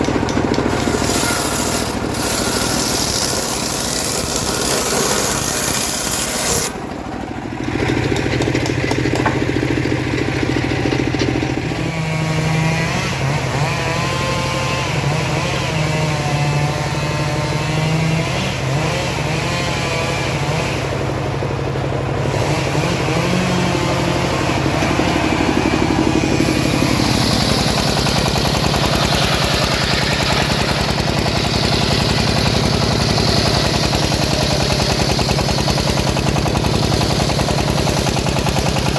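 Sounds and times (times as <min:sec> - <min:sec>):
saw blade cutting wood: 0:00.0 - 0:07.1, 0:07.7 - 0:38.9
saw engine running: 0:00.0 - 0:38.9.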